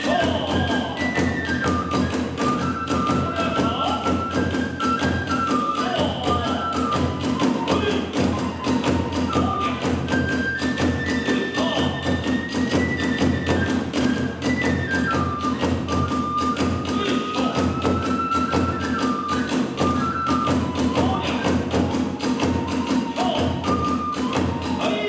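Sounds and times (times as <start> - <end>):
bamboo flute melody: 0.0 - 25.0.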